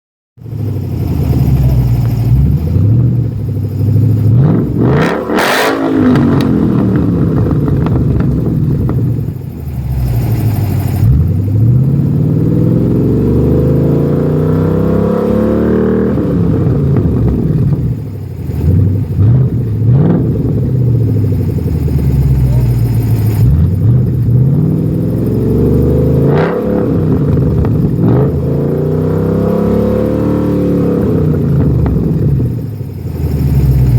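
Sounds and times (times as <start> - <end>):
car engine revving: 0.4 - 33.9.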